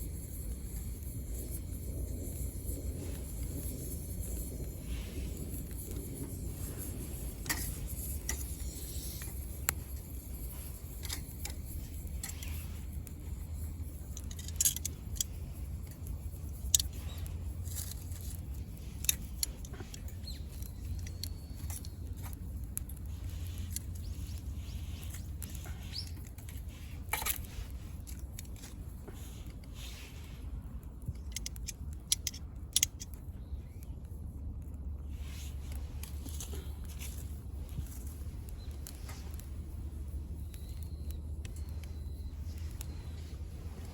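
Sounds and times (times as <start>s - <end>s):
sharp pops of burning wood: 0.0s - 29.7s, 30.9s - 43.9s
low stove rumble: 0.0s - 43.9s
wood fire crackling: 0.0s - 43.9s.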